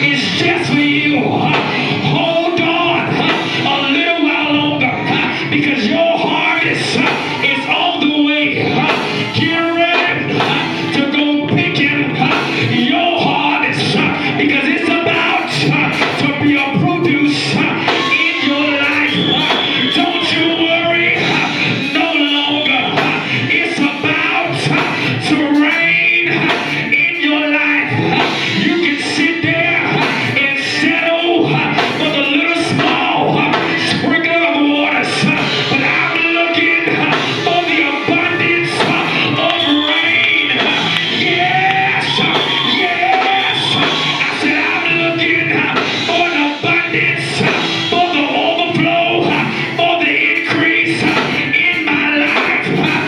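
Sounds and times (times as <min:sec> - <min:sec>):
cymbals hitting: 0:00.0 - 0:04.5, 0:06.4 - 0:11.3, 0:12.2 - 0:53.0
drums: 0:00.0 - 0:53.0
live church music: 0:00.0 - 0:53.0
people singing: 0:00.0 - 0:53.0.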